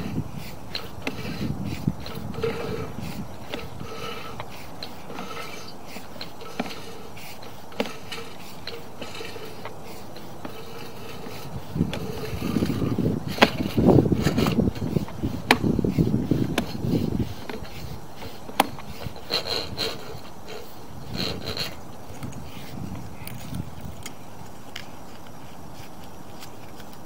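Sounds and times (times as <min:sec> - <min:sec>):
cable being pulled from drain: 0:00.0 - 0:22.7
rumbling and scraping: 0:00.0 - 0:26.8.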